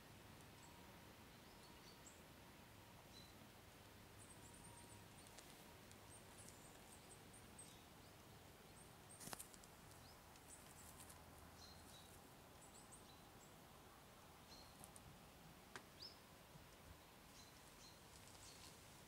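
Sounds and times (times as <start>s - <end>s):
small birds chirping: 0.0s - 2.3s, 4.1s - 19.0s.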